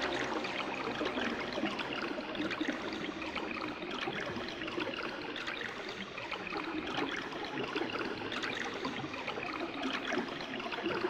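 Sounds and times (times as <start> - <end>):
stream trickling and gurgling: 0.0 - 11.0.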